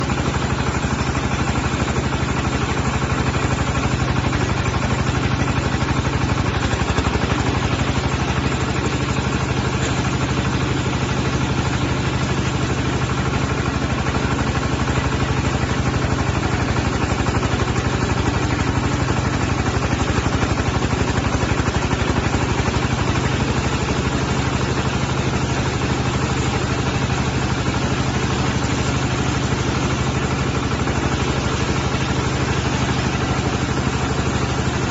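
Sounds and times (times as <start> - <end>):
diesel sawmill engine running: 0.0 - 34.9.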